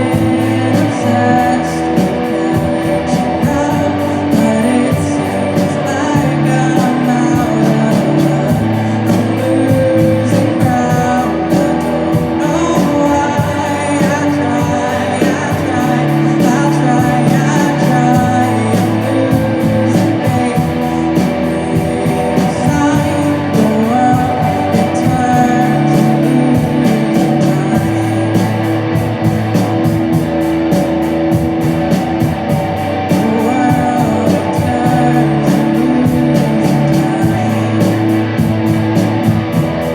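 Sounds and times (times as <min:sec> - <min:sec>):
person singing: 0:00.0 - 0:30.2, 0:32.9 - 0:39.9
rock band playing live: 0:00.0 - 0:39.9
steady cymbal beat: 0:00.0 - 0:39.9.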